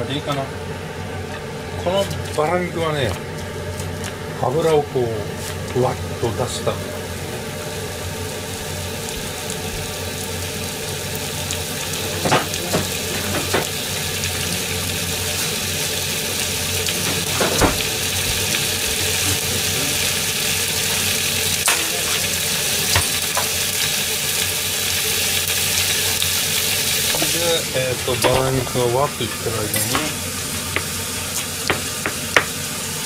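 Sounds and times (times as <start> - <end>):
meat sizzling in a frying pan: 0.1 - 33.0.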